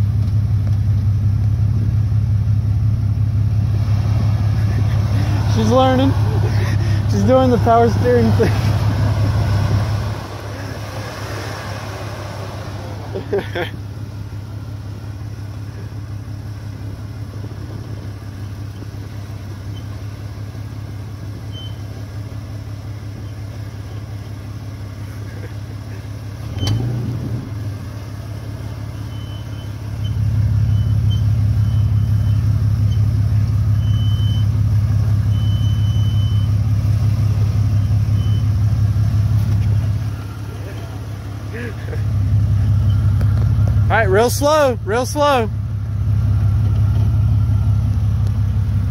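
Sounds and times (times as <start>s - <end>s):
car engine running: 0.0s - 48.9s.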